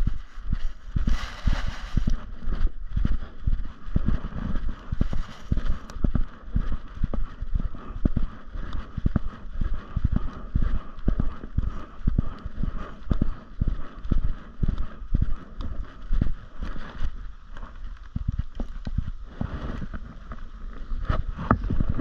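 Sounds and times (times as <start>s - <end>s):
footsteps on dirt trail: 0.0s - 22.0s.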